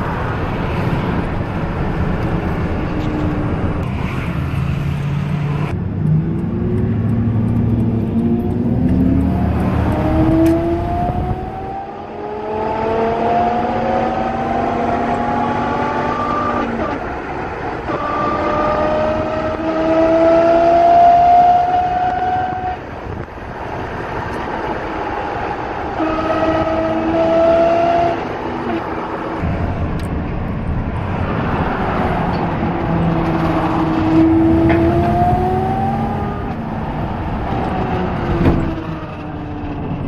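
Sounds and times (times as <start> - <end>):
engine noise: 0.0 - 40.0
road noise: 0.0 - 40.0.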